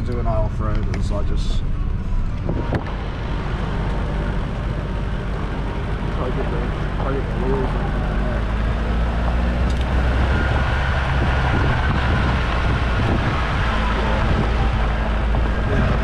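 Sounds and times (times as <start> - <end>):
tyre noise off-road: 0.0 - 16.0
vehicle engine running: 0.0 - 16.0.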